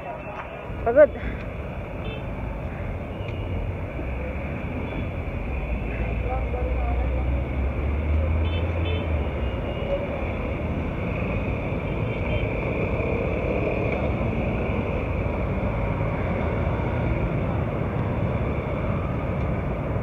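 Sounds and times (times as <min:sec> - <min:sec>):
buses passing: 0:00.0 - 0:20.0
cars passing: 0:00.0 - 0:20.0
motorbikes passing: 0:00.0 - 0:20.0.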